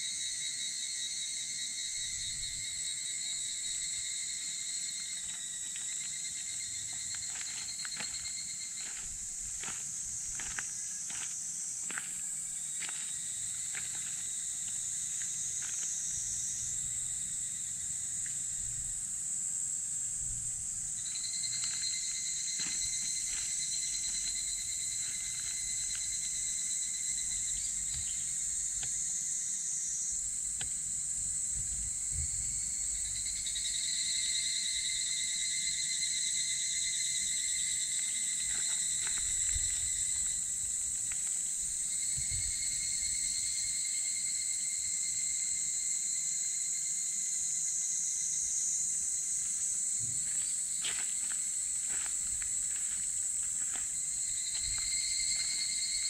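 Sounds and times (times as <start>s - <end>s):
high-pitched insect chorus: 0.0s - 56.0s
lower buzzing insect song: 0.0s - 56.0s.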